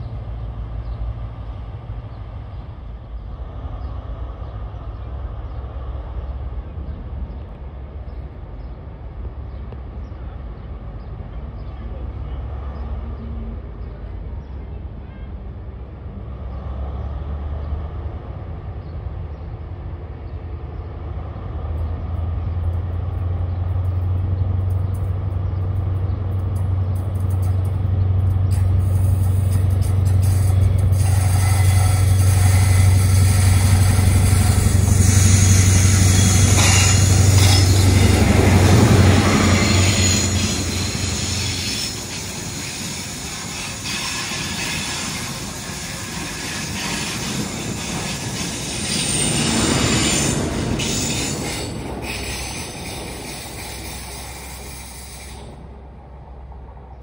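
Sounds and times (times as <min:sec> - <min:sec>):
diesel train engine drone: 0:00.0 - 0:57.0.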